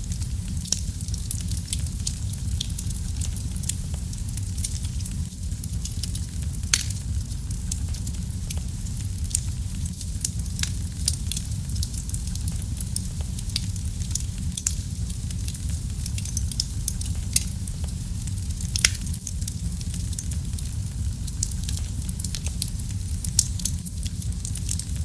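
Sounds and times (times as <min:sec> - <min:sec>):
loud fire pops: 0:00.0 - 0:25.0
wood fire crackling: 0:00.0 - 0:25.0.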